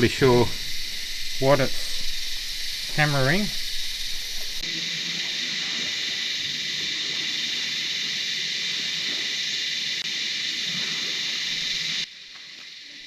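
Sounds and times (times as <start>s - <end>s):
shrill insect chorus: 0.0s - 13.0s.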